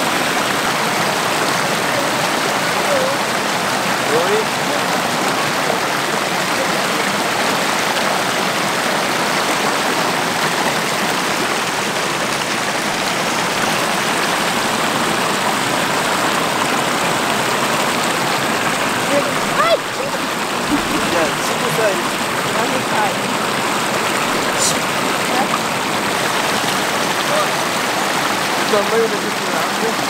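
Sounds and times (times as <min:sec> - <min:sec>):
floodwater pouring over spillway: 0:00.0 - 0:30.0.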